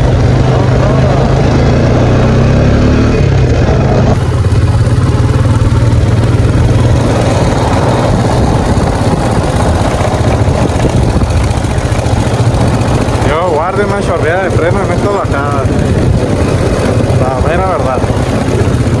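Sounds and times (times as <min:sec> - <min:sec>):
quad bike engine running: 0:00.0 - 0:19.0
road noise: 0:00.0 - 0:19.0.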